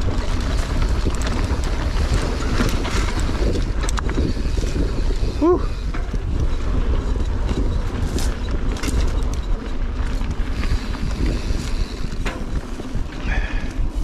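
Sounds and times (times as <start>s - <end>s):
bike clicks and rattles: 0.0s - 14.0s
tyres on loose dirt: 0.0s - 14.0s
wind buffeting microphone: 0.0s - 14.0s.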